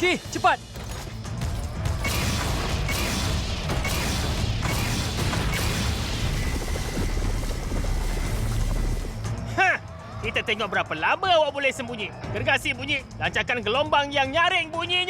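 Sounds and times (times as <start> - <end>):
action soundtrack music: 0.0 - 15.0.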